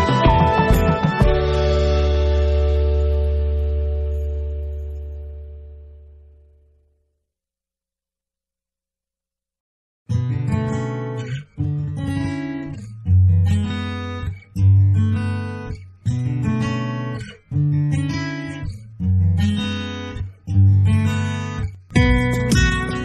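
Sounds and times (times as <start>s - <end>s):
acoustic guitar chords: 0.0s - 6.6s, 10.1s - 23.0s.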